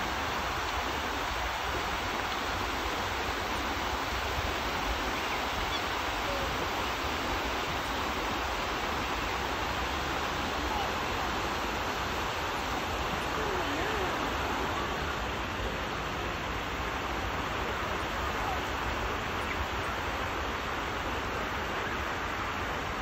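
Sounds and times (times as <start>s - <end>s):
fountain water splashing: 0.0s - 23.0s.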